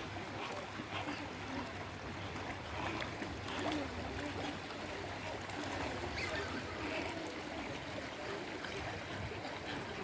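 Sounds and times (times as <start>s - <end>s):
faint voices: 0.0s - 10.0s
running water: 0.0s - 10.0s.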